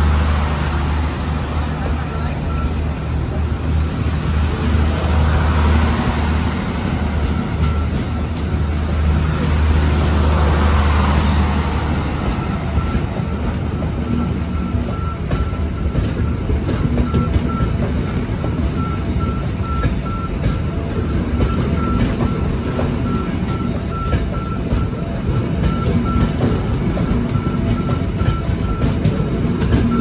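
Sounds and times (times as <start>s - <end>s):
train wheels rattling over rail joints: 0.0s - 30.0s.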